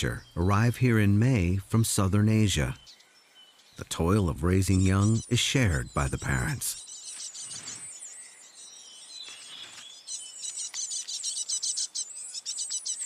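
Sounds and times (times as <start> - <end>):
nestlings chirping: 0.0 - 13.0.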